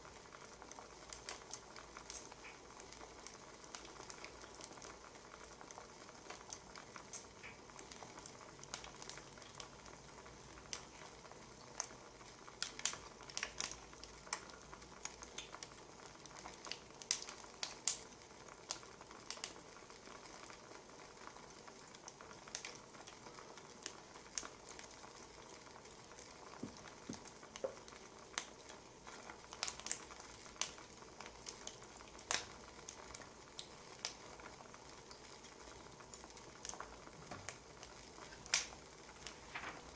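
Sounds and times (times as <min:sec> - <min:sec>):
soft hiss: 0:00.0 - 0:39.9
wood fire crackling and popping: 0:00.0 - 0:39.9.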